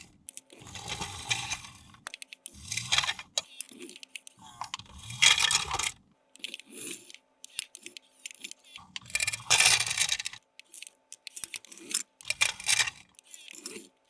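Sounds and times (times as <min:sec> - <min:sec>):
plastic toy parts clicking: 0:00.2 - 0:13.9.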